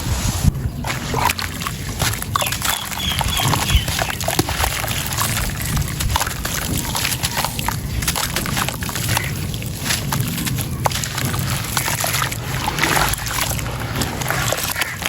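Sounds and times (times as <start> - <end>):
wet sloshing: 0.0 - 15.0.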